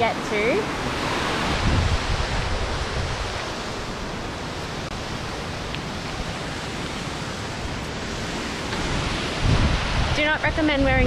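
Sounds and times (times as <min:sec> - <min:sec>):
waterfall rushing: 0:00.0 - 0:11.0
wind rumble on microphone: 0:00.0 - 0:11.0.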